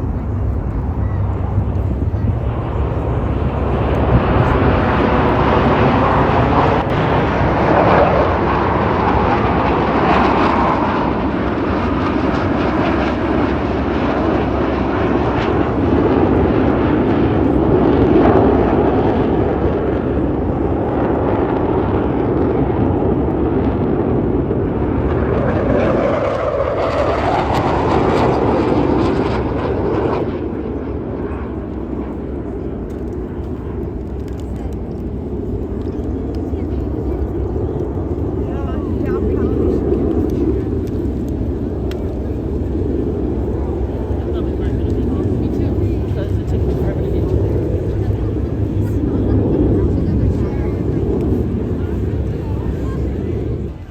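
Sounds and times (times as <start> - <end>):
fighter jets flying past: 0.0 - 53.9.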